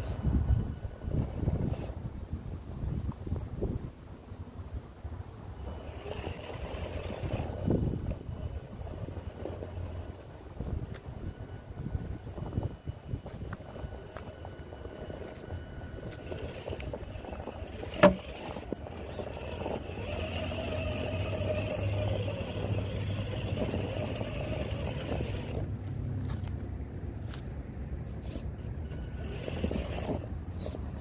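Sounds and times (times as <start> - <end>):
rc truck motor whining: 0.0 - 2.1, 5.4 - 25.8, 28.1 - 31.0.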